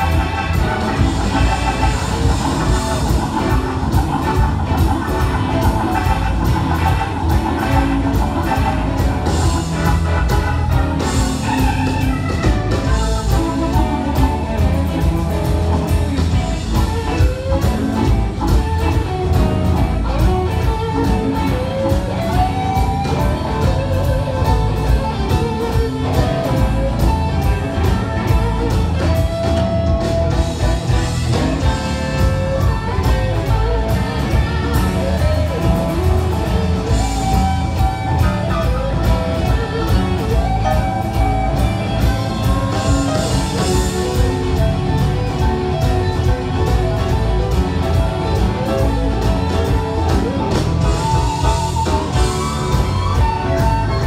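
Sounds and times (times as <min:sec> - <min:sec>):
bass: 0:00.0 - 0:54.0
drums: 0:00.0 - 0:54.0
electric guitars with bent notes: 0:00.0 - 0:54.0
keyboard: 0:00.0 - 0:54.0.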